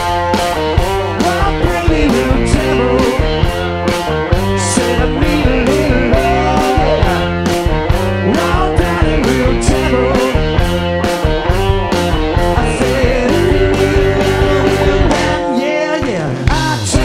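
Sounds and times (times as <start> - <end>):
bass line: 0.0 - 17.0
drums steady beat: 0.0 - 17.0
electric guitar bent notes: 0.0 - 17.0.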